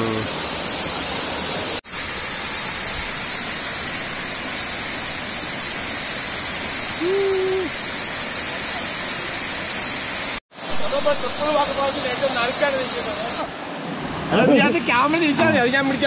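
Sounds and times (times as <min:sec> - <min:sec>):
waterfall rushing onto rocks: 0:00.0 - 0:13.6.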